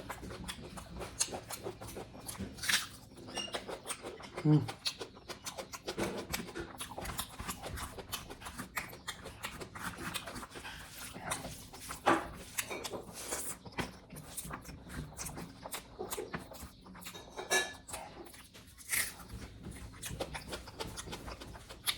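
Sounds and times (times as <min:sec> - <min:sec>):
lip smacks: 0:00.0 - 0:21.9
wet chewing mouth clicks: 0:00.0 - 0:21.9.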